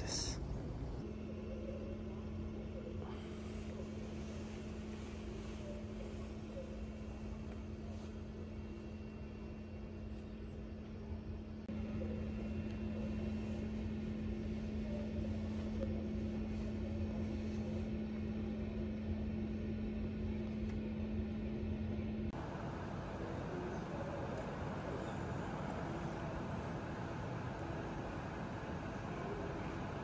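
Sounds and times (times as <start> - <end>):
air-handling machinery hum: 0.0 - 30.0.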